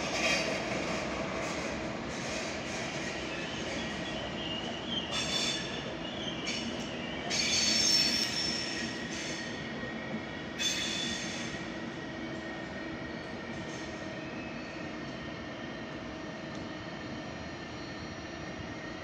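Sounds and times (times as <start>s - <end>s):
train rumble: 0.0s - 19.0s
train wheels squealing: 0.0s - 19.0s.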